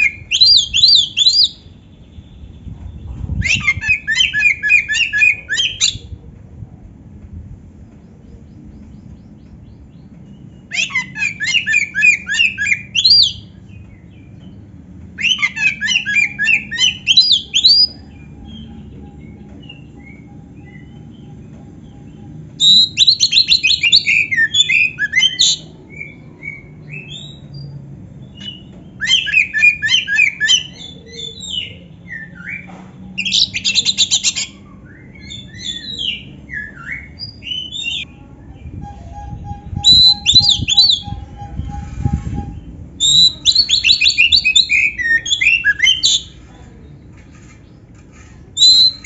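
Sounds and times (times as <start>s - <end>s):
bird singing chirping phrases: 0.0s - 6.0s, 8.0s - 49.0s.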